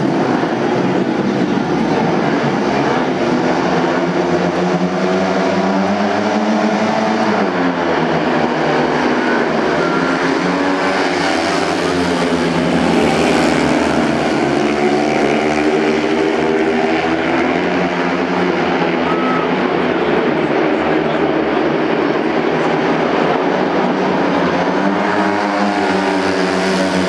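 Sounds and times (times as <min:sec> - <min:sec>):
motorbike engines revving: 0:00.0 - 0:27.0.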